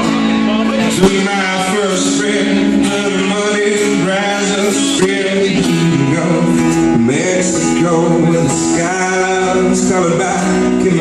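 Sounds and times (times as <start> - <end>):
guitars: 0.0 - 11.0
live country-rock band: 0.0 - 11.0.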